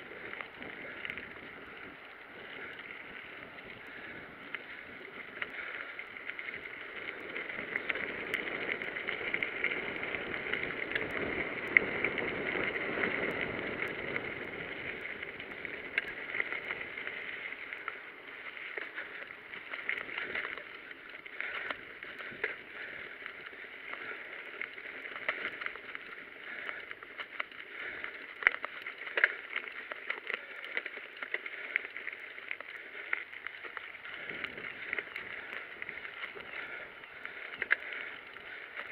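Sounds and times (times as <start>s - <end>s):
bike tyres on gravel: 0.0s - 38.9s.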